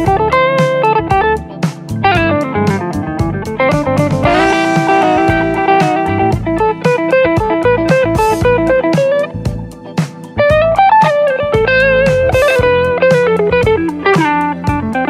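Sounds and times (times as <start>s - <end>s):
electric guitar lead line: 0.0s - 15.0s
jazz-blues backing track: 0.0s - 15.0s.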